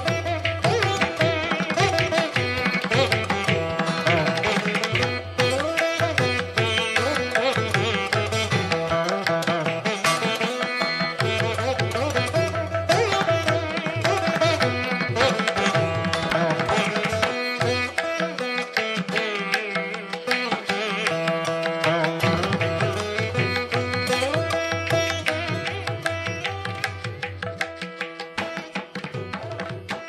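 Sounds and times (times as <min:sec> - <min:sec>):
hand drums: 0:00.0 - 0:30.0.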